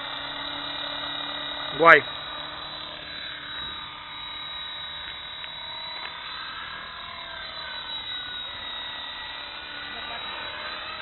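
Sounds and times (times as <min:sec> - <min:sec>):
toy helicopter motor whining: 0:00.0 - 0:11.0.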